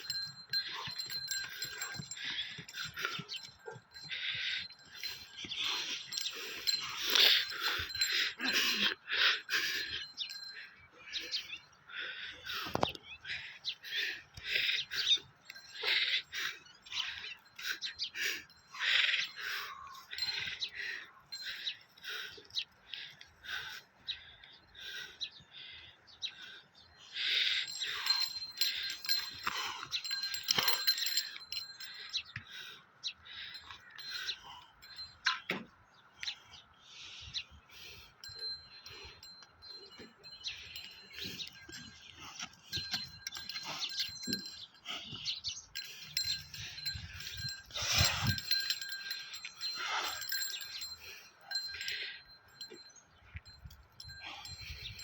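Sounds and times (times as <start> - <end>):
small metal bells jingling: 0.0 - 25.8, 26.4 - 36.4, 37.2 - 55.0
birds chirping and calling: 0.0 - 55.0.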